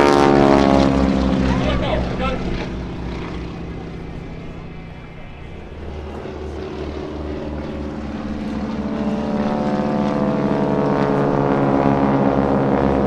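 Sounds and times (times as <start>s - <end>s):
biplane engines and propellers: 0.0s - 13.0s.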